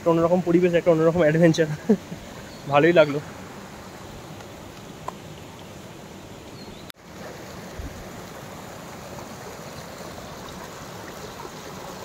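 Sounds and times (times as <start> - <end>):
stream falling over rocks: 0.0 - 12.0.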